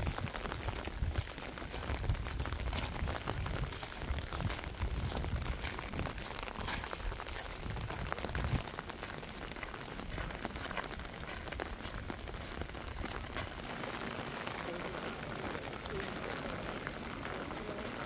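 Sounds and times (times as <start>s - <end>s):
light rain falling: 0.0s - 18.0s.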